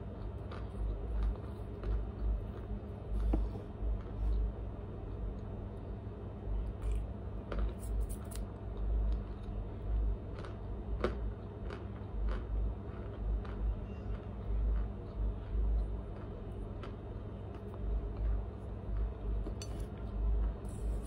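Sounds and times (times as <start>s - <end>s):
crunching while chewing: 0.0s - 5.6s, 6.6s - 21.0s.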